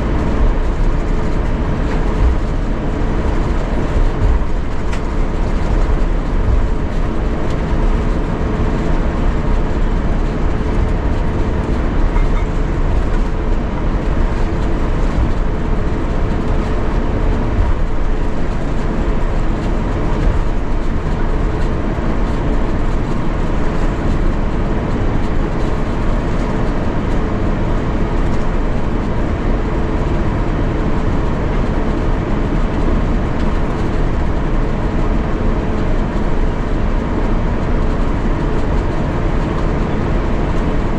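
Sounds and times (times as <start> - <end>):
airplane cabin engine hum: 0.0 - 40.9.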